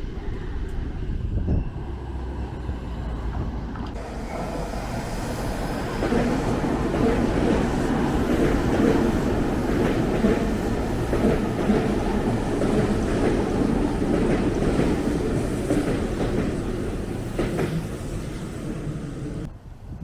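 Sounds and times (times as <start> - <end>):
train running past: 0.0 - 19.7.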